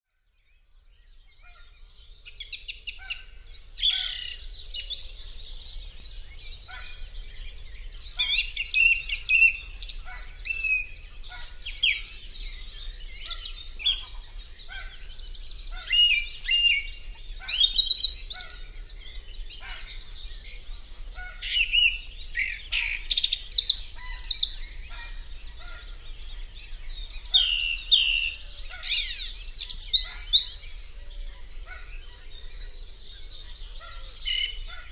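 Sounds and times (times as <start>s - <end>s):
songbirds chorus: 0.1s - 34.9s.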